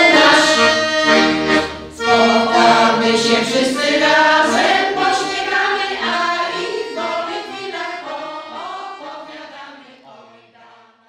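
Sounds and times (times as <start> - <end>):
women singing together: 0.0 - 1.2, 2.0 - 11.0.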